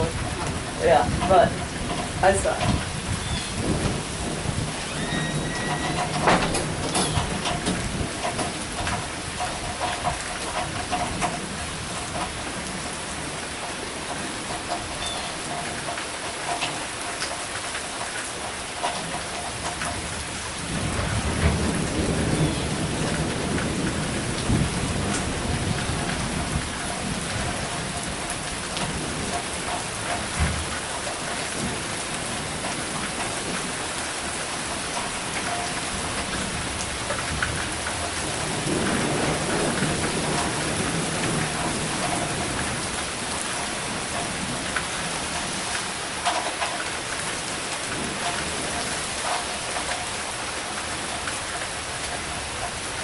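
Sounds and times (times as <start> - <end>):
thunder rumbling: 0.0 - 15.2, 18.8 - 53.0
steady rain: 0.0 - 53.0.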